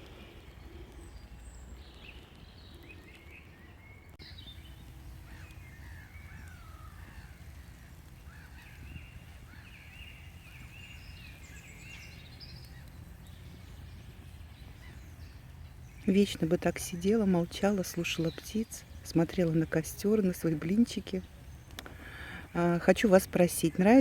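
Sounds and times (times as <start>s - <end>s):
songbirds singing: 0.0s - 24.0s
steady low rumble: 4.2s - 24.0s.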